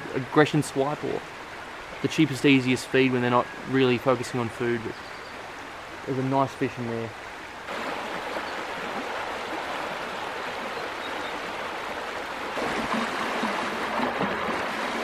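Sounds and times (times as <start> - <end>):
creek water running over stones: 0.0 - 15.0.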